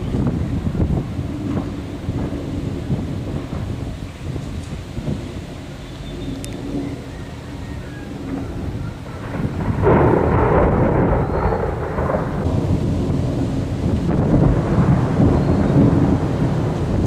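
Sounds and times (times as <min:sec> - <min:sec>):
thunder rumbling and crackling: 0:00.0 - 0:17.0.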